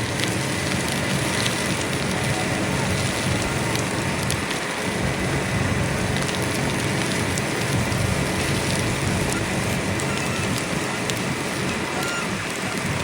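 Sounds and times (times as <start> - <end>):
hissing fire with crackles: 0.0 - 13.0
low engine rumble: 0.0 - 13.0.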